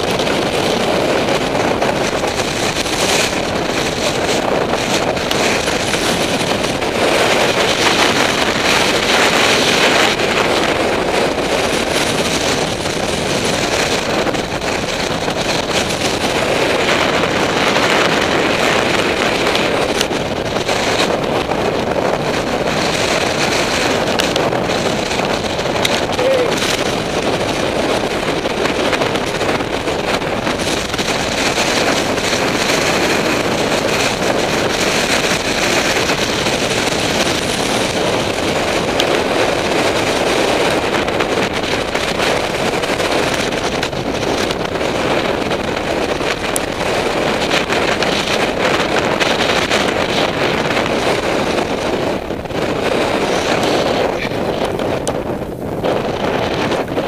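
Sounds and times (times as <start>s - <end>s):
bike rattling over stones: 0.0s - 57.0s
wind noise on microphone: 0.0s - 57.0s.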